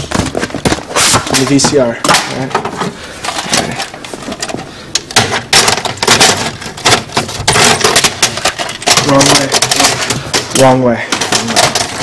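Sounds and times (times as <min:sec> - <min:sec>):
rubbing and rustling: 0:00.0 - 0:01.9, 0:02.6 - 0:12.0.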